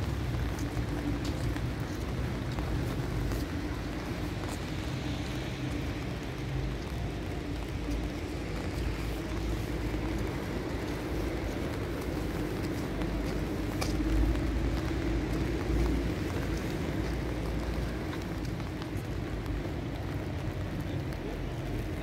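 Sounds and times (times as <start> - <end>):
rain hiss on wet streets: 0.0 - 22.0
traffic hum: 0.0 - 22.0.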